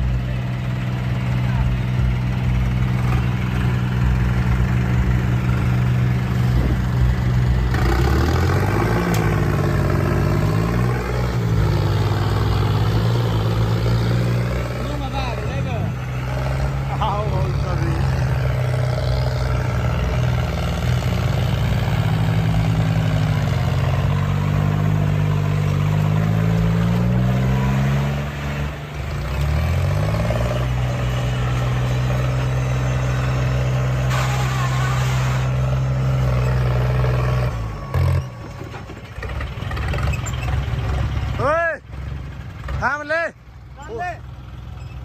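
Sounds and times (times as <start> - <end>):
tractor engine revving: 0.0 - 45.0.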